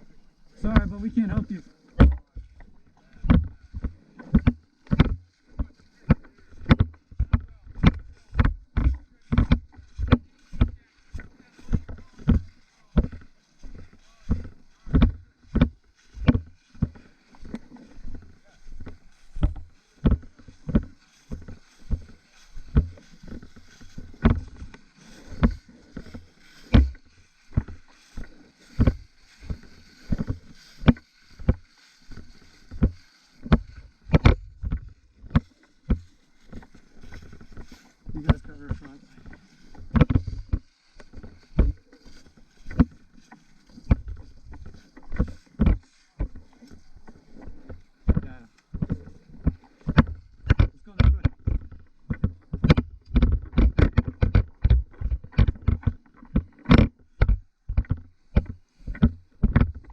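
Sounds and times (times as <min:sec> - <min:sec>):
footsteps walking: 0:00.0 - 0:59.9.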